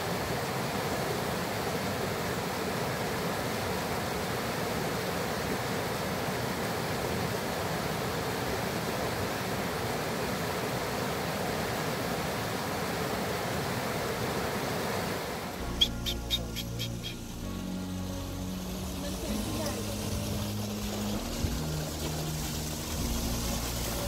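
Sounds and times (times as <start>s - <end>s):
stream rushing over boulders: 0.0s - 24.0s.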